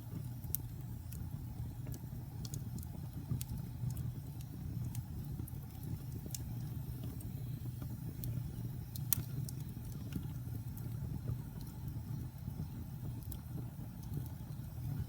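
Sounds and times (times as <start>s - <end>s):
fire crackling in a fireplace: 0.0s - 15.0s.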